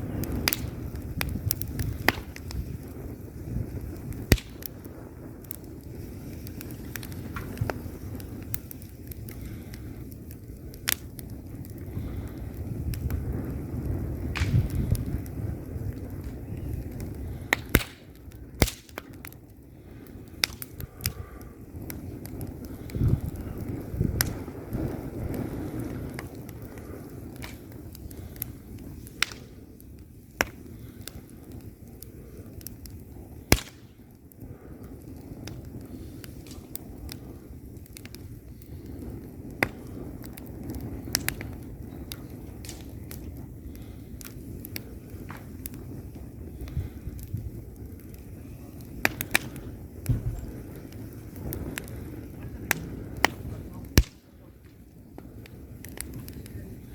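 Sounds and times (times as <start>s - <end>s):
flames rumbling: 0.0s - 56.9s
logs crackling and popping: 0.0s - 56.9s.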